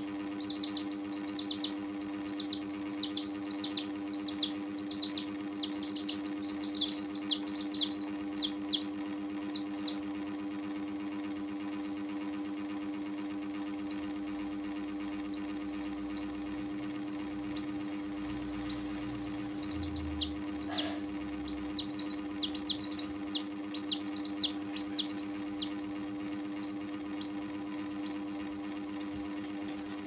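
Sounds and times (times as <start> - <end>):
chicks peeping: 0.0 - 30.0
low hum: 0.0 - 30.0.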